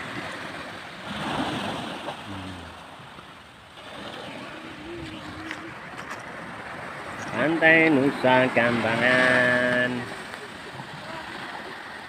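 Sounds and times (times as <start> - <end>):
waves washing up stony beach: 0.0 - 12.0.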